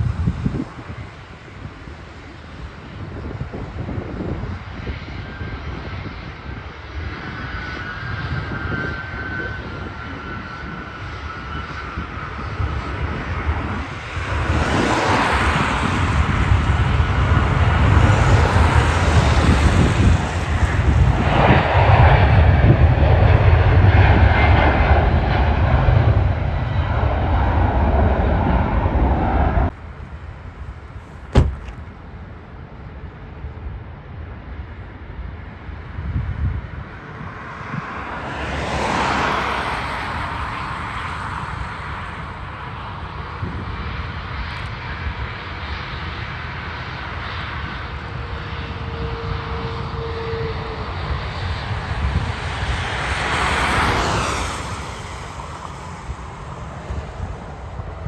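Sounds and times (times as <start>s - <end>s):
jet airliner engine noise: 0.0s - 58.0s
distant jet drone: 6.8s - 32.4s, 36.9s - 58.0s.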